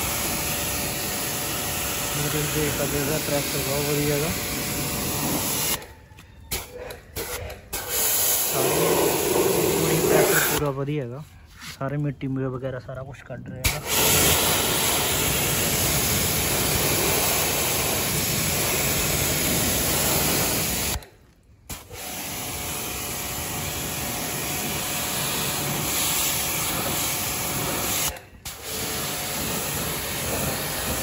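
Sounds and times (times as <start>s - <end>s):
pressure washer jet hissing: 0.0s - 5.8s, 7.2s - 10.7s, 13.6s - 21.0s, 21.7s - 31.0s.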